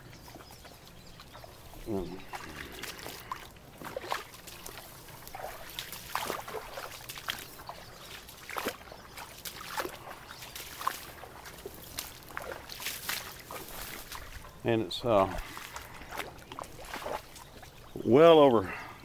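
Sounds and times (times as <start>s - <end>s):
water sloshing and splashing: 0.0s - 18.9s.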